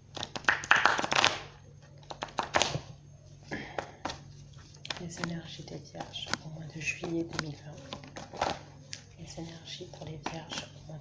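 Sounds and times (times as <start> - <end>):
cards being shuffled: 0.1 - 2.9, 3.8 - 11.0.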